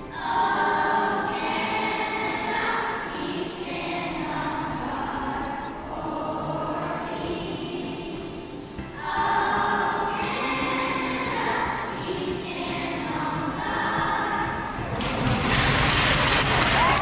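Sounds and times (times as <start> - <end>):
children's choir singing: 0.0 - 16.9.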